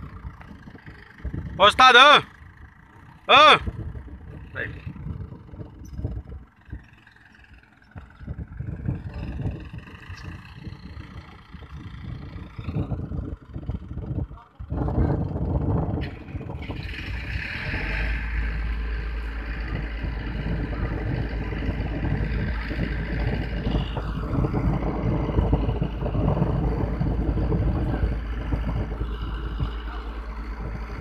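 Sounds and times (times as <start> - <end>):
crane diesel engine running: 0.0 - 31.0.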